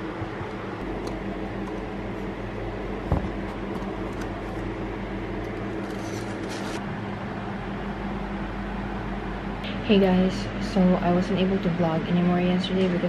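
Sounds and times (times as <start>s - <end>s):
air conditioner hum: 0.0s - 13.0s.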